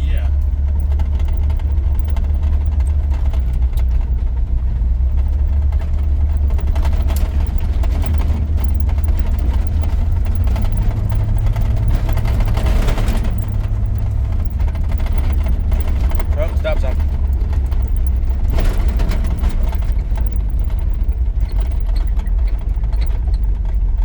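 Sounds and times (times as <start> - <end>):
engine and road drone in cab: 0.0 - 24.0.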